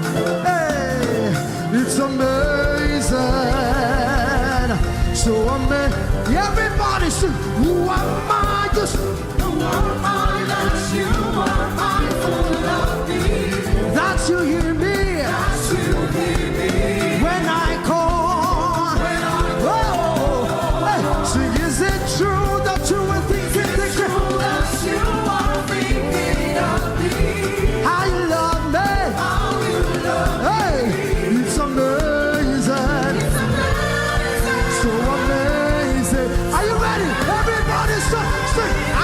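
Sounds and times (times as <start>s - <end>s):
gospel band with drums: 0.0s - 39.0s.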